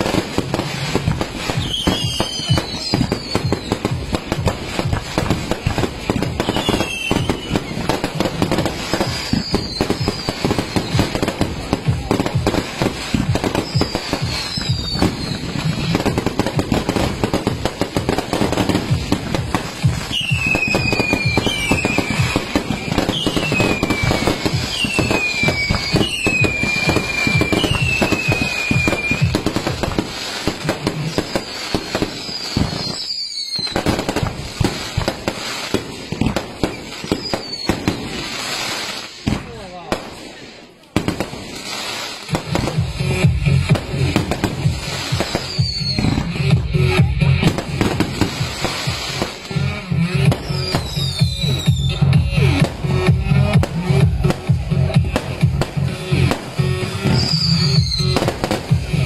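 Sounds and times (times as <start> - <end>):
fireworks crackling and popping: 0.0 - 59.0
fireworks whistling: 0.0 - 59.0.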